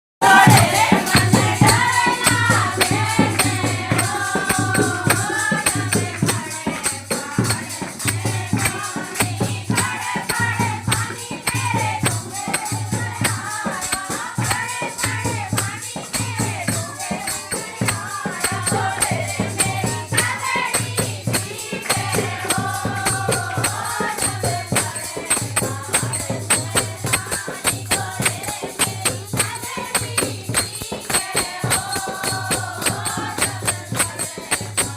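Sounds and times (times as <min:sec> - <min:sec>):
jingling tambourine-like percussion: 0:00.2 - 0:34.9
person singing devotional song: 0:00.2 - 0:34.9.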